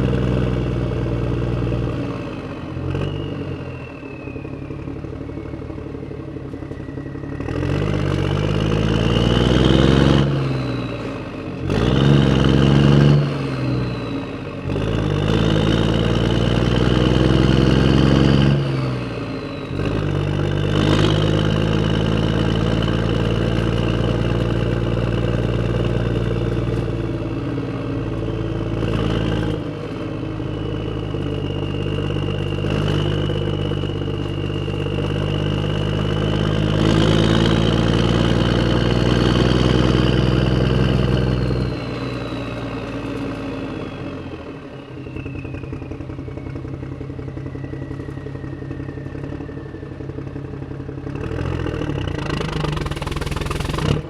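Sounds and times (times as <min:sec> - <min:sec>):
tractor engine revving: 0:00.0 - 0:54.0.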